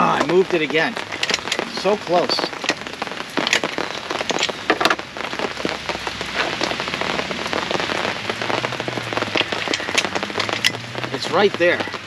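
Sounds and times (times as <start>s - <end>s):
rain on fabric canopy: 0.0s - 12.0s.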